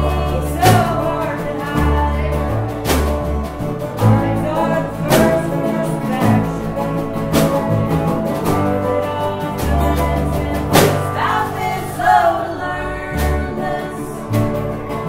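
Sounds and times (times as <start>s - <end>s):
band music with acoustic guitar: 0.0s - 15.0s.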